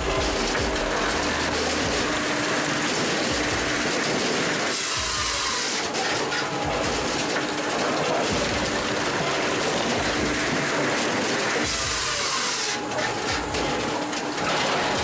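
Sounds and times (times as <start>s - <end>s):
firewood processor clattering: 0.0s - 15.0s.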